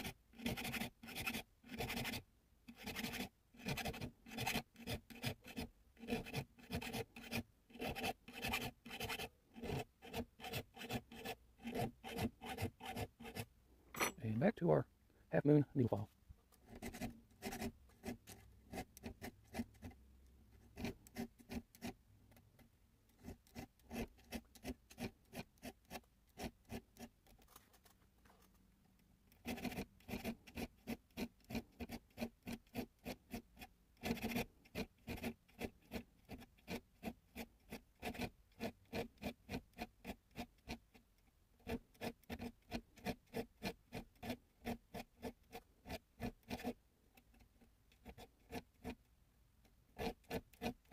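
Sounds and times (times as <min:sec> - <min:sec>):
needle file rasping metal: 0:00.0 - 0:14.3, 0:16.6 - 0:27.8, 0:29.3 - 0:50.9.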